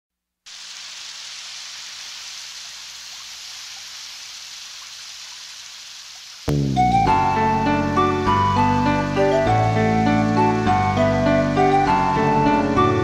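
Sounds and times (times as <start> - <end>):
steady rain hiss: 0.5 - 13.0.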